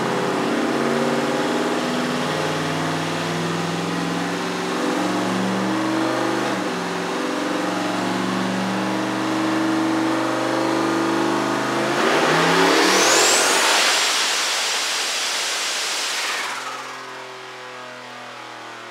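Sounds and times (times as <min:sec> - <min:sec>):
car engine running on dyno: 0:00.0 - 0:18.9.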